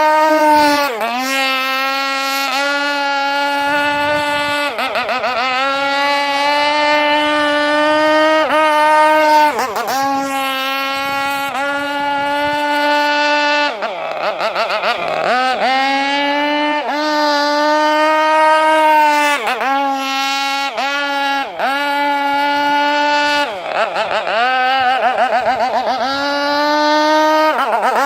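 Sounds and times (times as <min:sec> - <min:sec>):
speedboat engine whining: 0:00.0 - 0:28.0.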